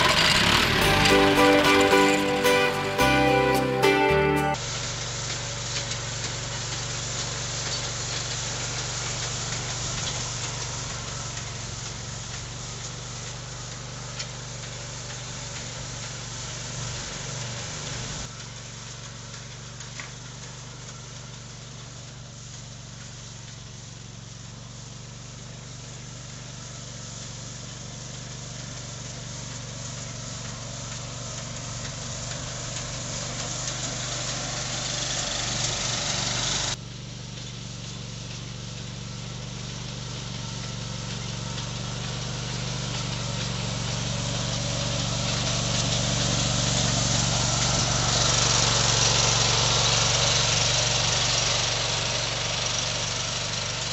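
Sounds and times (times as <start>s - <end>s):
mower engine running: 0.0s - 53.9s.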